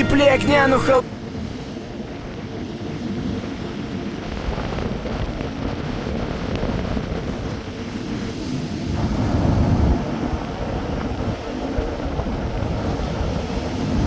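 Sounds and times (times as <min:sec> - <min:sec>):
sea waves: 0:00.0 - 0:14.0
wind buffeting microphone: 0:01.0 - 0:14.0.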